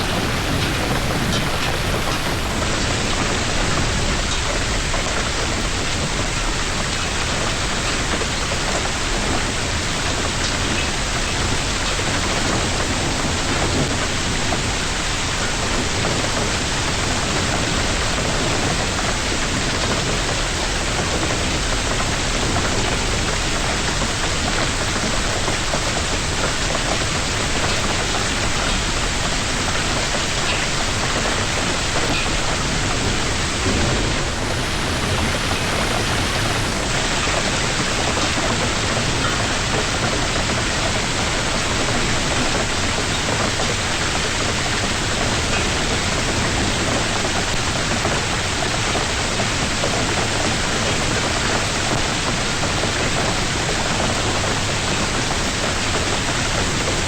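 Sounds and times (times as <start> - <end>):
hail pelting surfaces: 0.0 - 57.0.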